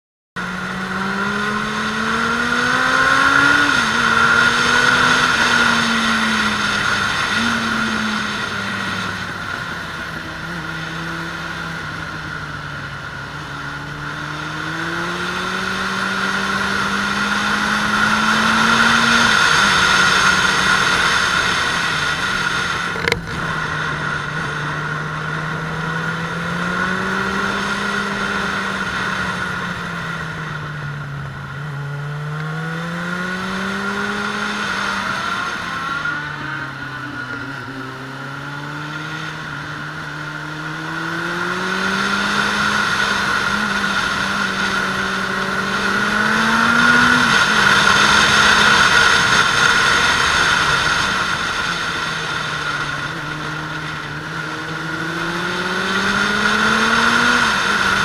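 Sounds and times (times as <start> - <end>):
motorcycle engine revving: 0.4 - 58.0.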